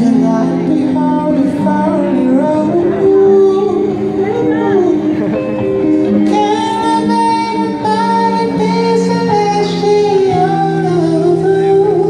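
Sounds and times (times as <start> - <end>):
sustained chords: 0.0 - 12.0.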